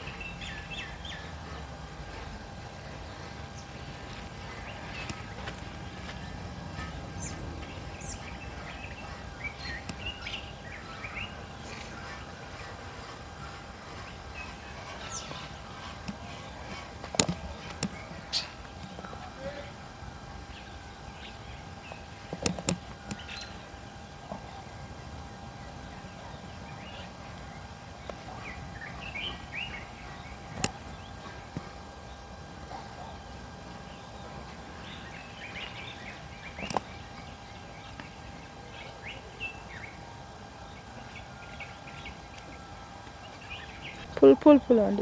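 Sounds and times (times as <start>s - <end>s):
birds chirping: 0.0s - 45.0s
faint steady hum: 0.0s - 45.0s.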